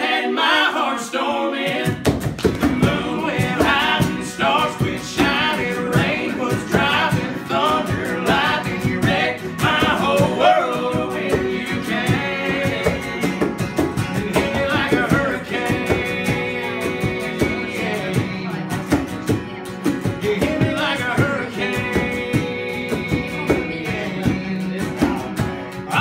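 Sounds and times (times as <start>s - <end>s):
men singing: 0.0s - 19.0s, 19.9s - 26.0s
acoustic guitars strummed: 0.0s - 26.0s.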